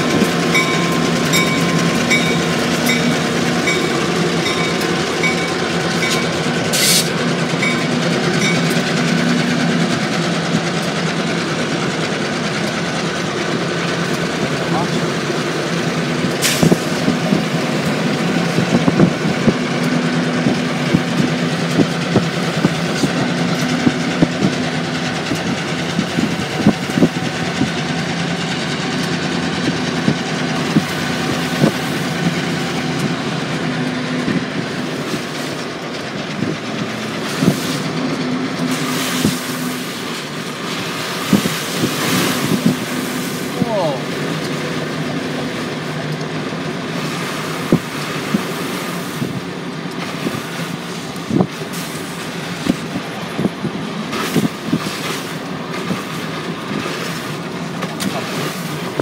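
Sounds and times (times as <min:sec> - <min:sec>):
diesel locomotive engine drone: 0:00.0 - 0:59.0
wheels clicking over rail joints: 0:00.0 - 0:59.0.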